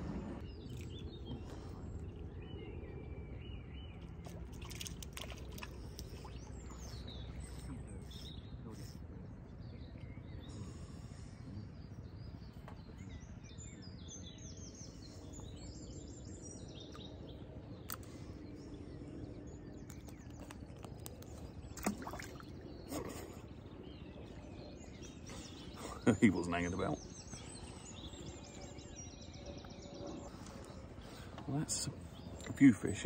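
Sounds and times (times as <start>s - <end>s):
birds singing: 0.3s - 33.0s.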